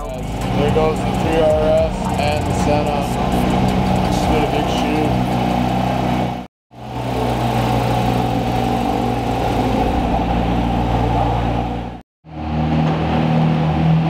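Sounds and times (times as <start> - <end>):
car engine droning at low revs: 0.0 - 14.0
car engine running at low revs: 0.0 - 14.0.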